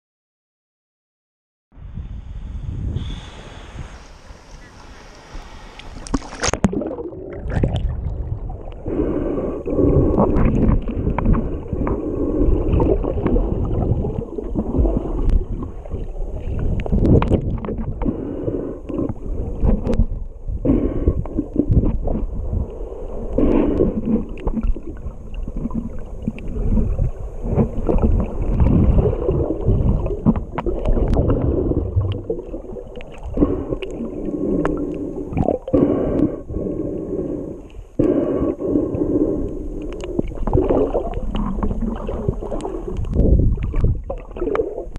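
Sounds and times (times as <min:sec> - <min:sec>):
muffled underwater water wash: 0:01.8 - 0:44.9
underwater bubbling: 0:02.5 - 0:44.9.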